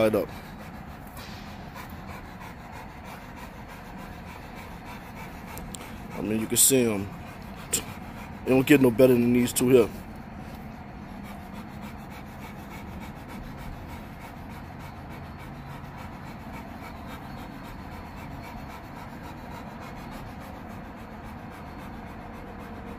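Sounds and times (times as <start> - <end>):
dogs panting: 0.0 - 22.9.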